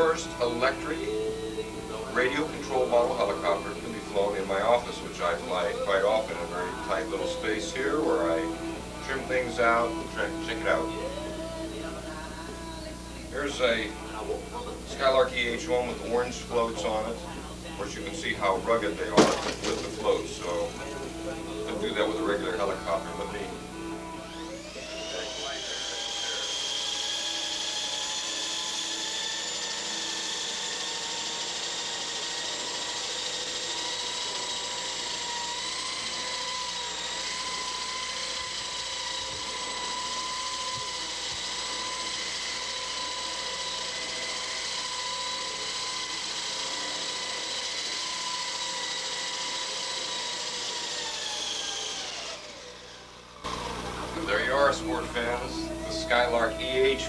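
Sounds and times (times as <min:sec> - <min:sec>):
rc helicopter rotor whine: 0:00.0 - 0:57.0.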